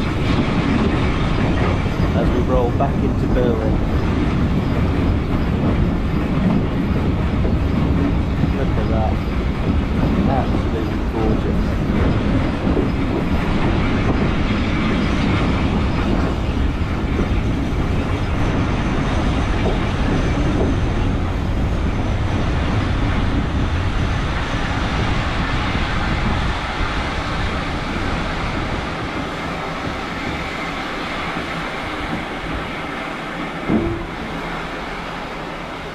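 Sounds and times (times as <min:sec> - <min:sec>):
train wheels rumbling: 0:00.0 - 0:35.9.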